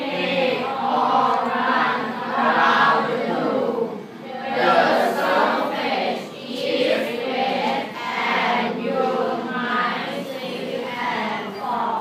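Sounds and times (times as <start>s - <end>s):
children reading aloud in unison: 0.0s - 12.0s.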